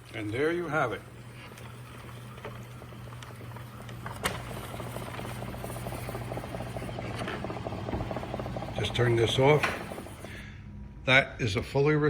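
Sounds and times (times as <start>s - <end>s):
rapid fluttering mechanical ticks: 0.0s - 10.4s
suction pump humming: 0.0s - 10.7s.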